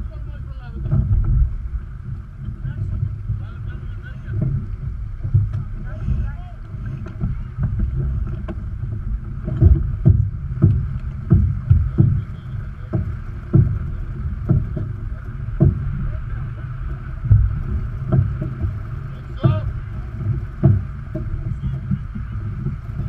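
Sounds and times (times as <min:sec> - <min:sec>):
rush of wind and water: 0:00.0 - 0:23.0
waves thumping hull: 0:00.0 - 0:23.0.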